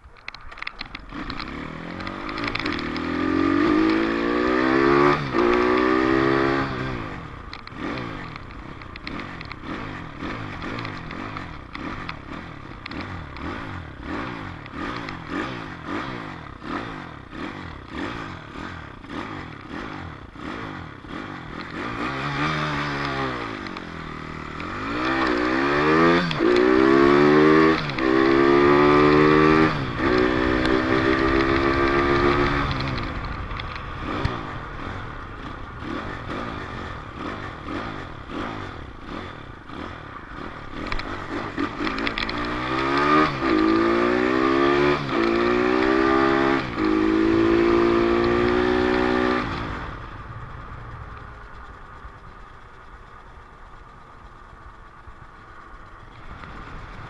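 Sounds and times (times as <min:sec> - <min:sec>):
dirt bike engine accelerating: 0:00.1 - 0:57.0.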